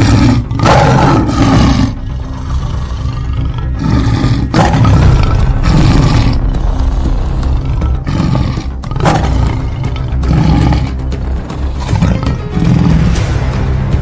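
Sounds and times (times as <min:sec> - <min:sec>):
tiger roaring: 0:00.0 - 0:13.2
background music: 0:00.0 - 0:14.0.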